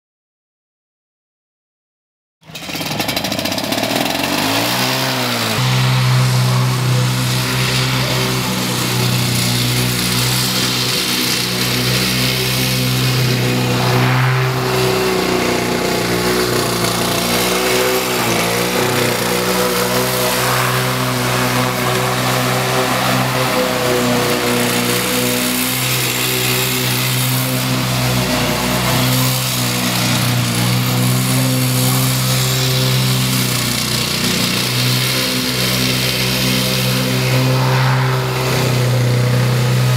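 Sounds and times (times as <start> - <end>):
lawn mower engine running: 2.4 - 39.9.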